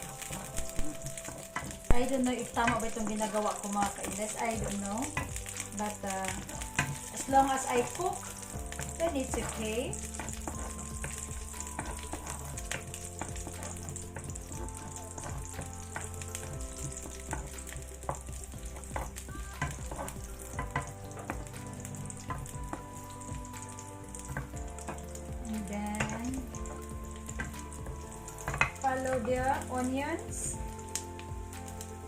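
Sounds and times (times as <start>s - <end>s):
garlic sizzling in hot oil: 0.0s - 32.0s.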